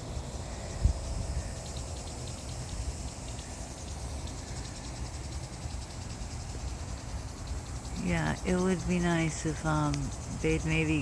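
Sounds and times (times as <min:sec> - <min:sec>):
wind rumble on microphone: 0:00.0 - 0:03.4, 0:04.0 - 0:11.0
insects chirping: 0:00.0 - 0:11.0.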